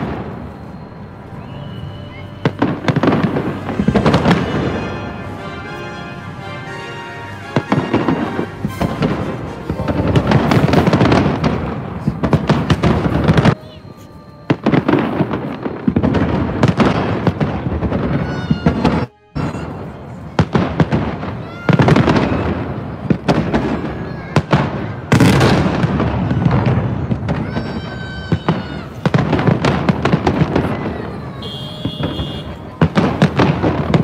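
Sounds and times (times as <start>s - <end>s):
firework bursts and crackling: 0.0s - 34.0s.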